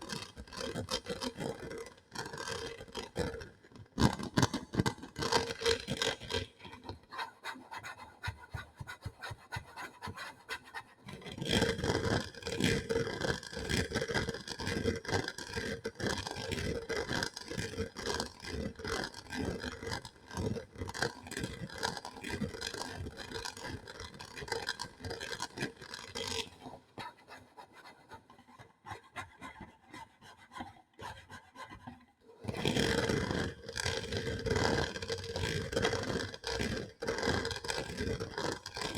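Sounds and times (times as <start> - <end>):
scratching and scraping on surface: 0.1 - 38.9.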